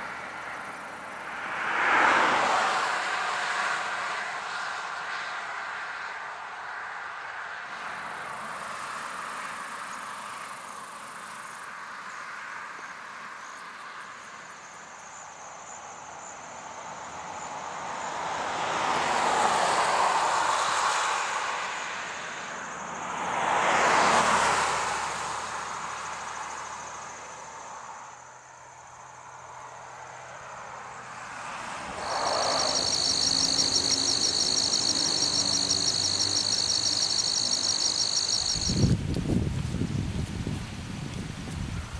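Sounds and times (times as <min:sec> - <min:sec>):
cars passing: 0:00.0 - 0:14.7, 0:16.5 - 0:39.1.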